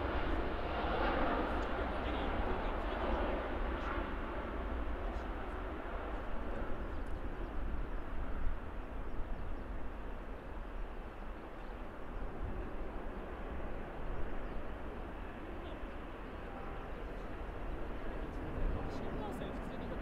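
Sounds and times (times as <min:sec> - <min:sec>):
jet engines rumbling at takeoff: 0:00.0 - 0:20.0.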